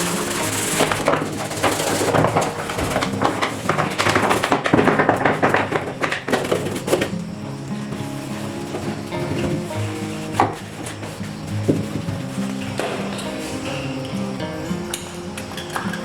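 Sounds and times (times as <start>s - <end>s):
brush scrubbing plastic: 0.0s - 16.0s
quiet background music: 0.0s - 16.0s.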